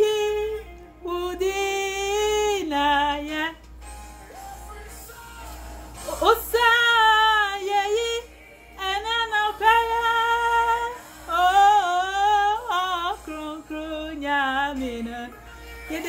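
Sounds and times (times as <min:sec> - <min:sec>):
woman singing with vibrato: 0:00.0 - 0:03.7, 0:06.0 - 0:16.0.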